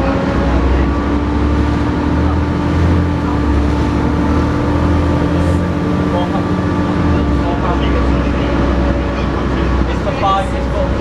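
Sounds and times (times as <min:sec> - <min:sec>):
bus diesel engine drone: 0:00.0 - 0:11.0
engine whine: 0:00.0 - 0:11.0.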